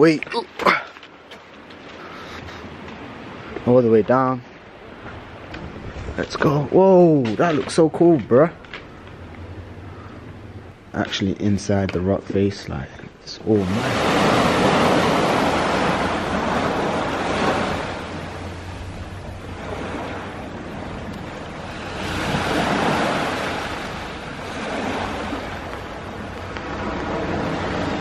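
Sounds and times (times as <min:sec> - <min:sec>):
small waves breaking on sand: 0:00.0 - 0:09.3, 0:13.4 - 0:28.0.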